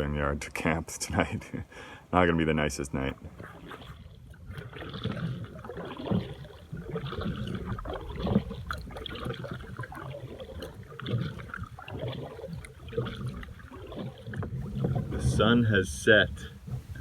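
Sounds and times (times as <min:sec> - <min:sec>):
water gurgling around boat: 0:00.0 - 0:17.0
kayak paddle strokes in water: 0:02.5 - 0:17.0.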